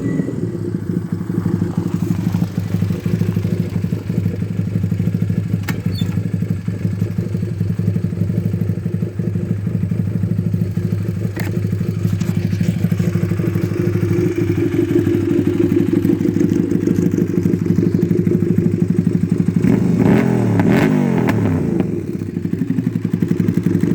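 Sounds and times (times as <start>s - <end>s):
motorcycle engine running and revving: 0.0s - 23.9s.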